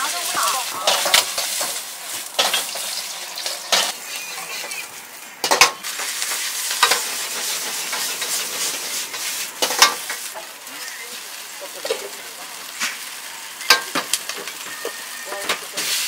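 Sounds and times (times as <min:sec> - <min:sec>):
sizzling in a wok: 0:00.0 - 0:16.0.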